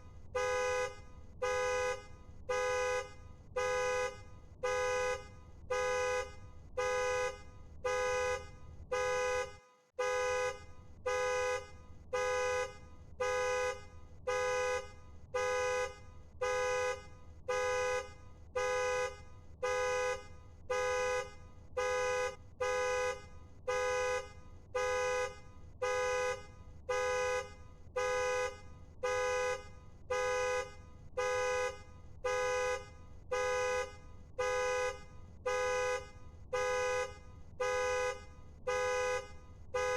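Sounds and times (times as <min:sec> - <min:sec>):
car alarm horn honking: 0:00.4 - 0:39.9.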